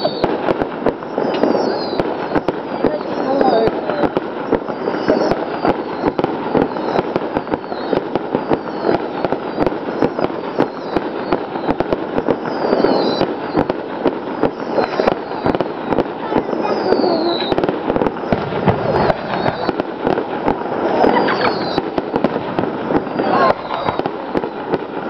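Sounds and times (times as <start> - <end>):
falling whistles: 0.0 - 0.4, 1.0 - 13.7, 14.4 - 19.8, 20.9 - 21.8, 22.8 - 24.1
fireworks bangs and crackling: 0.0 - 25.0.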